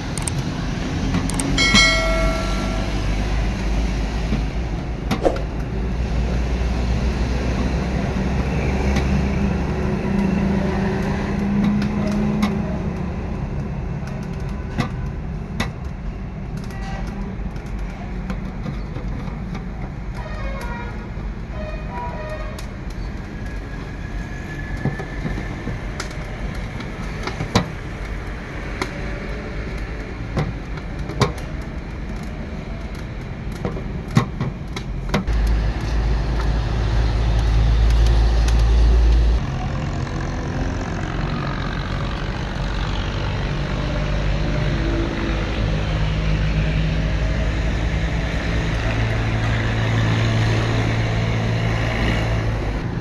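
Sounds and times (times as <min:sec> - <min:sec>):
roadside traffic engine hum: 0:00.0 - 0:53.0.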